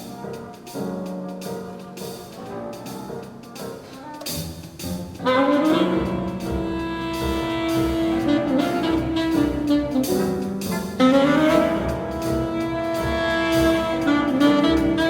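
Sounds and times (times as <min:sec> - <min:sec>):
symphony orchestra playing: 0:00.0 - 0:15.0.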